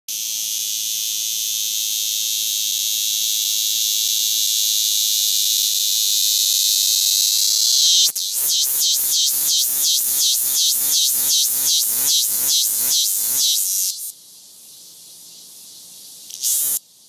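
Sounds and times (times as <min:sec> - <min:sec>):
cicada buzzing: 0:00.1 - 0:17.0.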